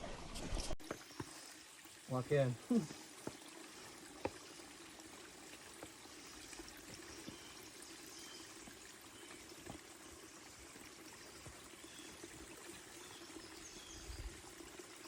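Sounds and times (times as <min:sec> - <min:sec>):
trickling water: 0:00.8 - 0:15.0.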